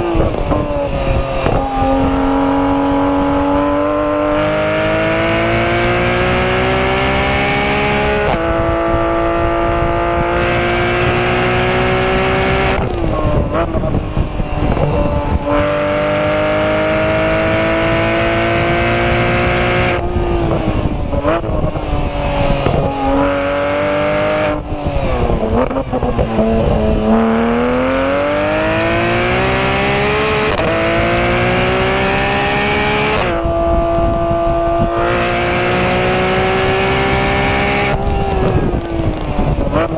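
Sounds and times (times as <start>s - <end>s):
sports car engine at full throttle: 0.0s - 39.9s.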